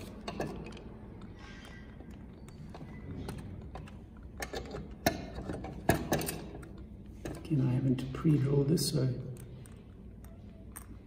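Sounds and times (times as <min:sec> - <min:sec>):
small clicks and knocks of parts: 0:00.2 - 0:07.5, 0:09.2 - 0:11.0.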